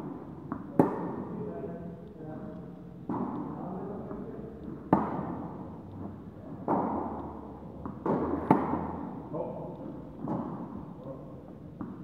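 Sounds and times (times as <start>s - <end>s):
tennis ball impacts with echo: 0.0s - 1.5s, 3.0s - 12.0s.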